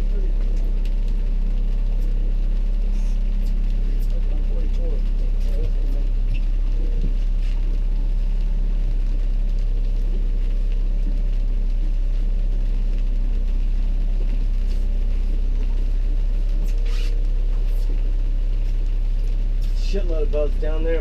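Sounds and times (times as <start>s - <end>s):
boat motor humming: 0.0s - 21.0s.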